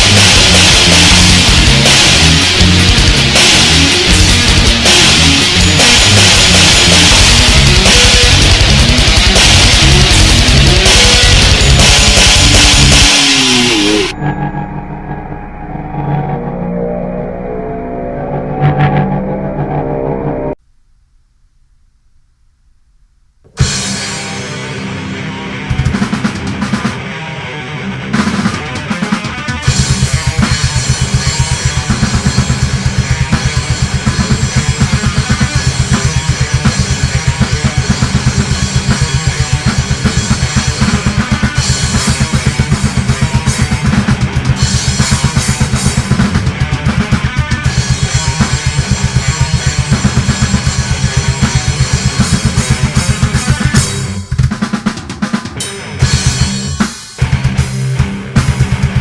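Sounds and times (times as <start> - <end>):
death metal music: 0.0 - 20.6, 23.6 - 59.0.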